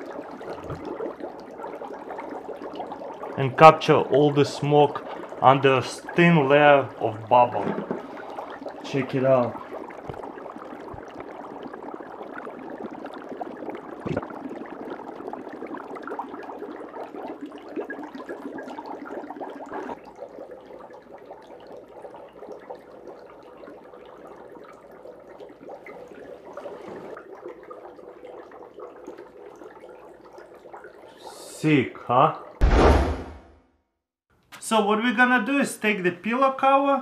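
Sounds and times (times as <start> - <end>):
dry ice bubbling in water: 0.0 - 32.6.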